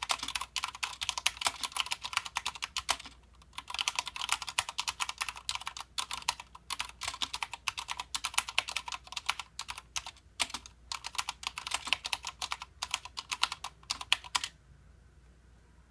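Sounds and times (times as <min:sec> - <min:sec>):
fast typing on mechanical keyboard: 0:00.0 - 0:14.5.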